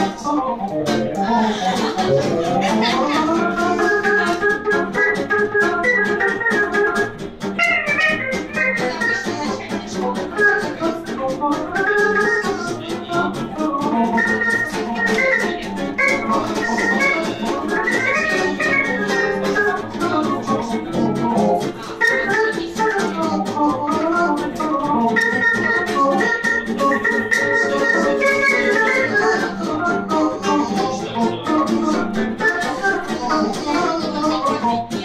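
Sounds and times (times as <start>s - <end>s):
accordion melody: 0.0s - 35.0s
acoustic guitar: 0.0s - 35.0s
double bass: 0.0s - 35.0s.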